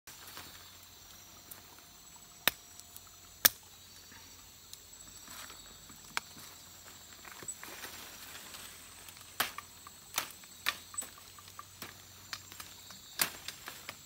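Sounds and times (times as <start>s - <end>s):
high-pitched insect hum: 0.1s - 14.0s.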